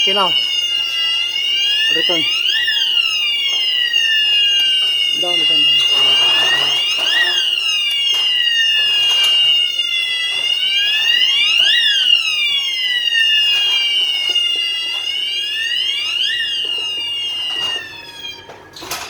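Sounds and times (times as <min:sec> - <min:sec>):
fire alarm tones: 0:00.0 - 0:19.0.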